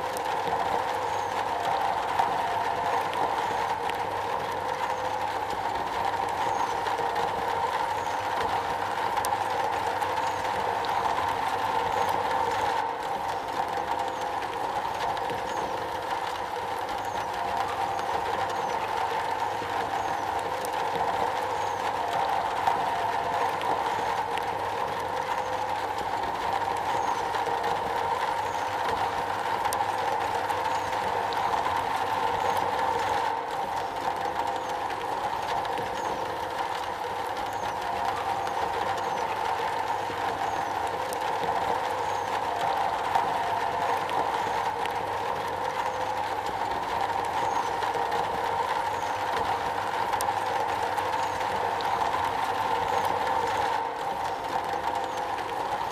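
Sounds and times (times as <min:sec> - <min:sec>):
rain on a metal roof: 0:00.0 - 0:55.9.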